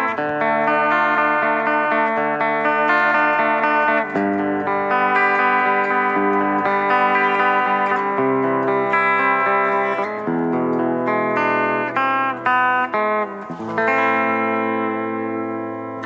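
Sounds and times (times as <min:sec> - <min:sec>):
clean electric guitar chords: 0:00.0 - 0:16.0.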